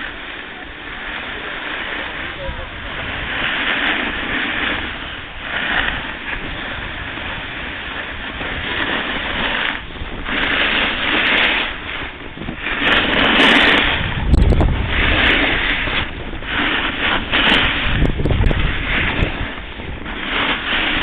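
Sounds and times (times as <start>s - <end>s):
skis scraping over snow: 0.0s - 21.0s
wind on microphone: 0.0s - 21.0s.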